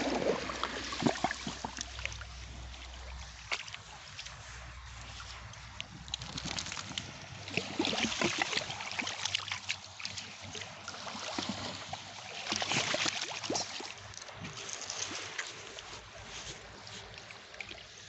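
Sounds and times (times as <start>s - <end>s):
sea water washing on shore: 0.0s - 18.0s.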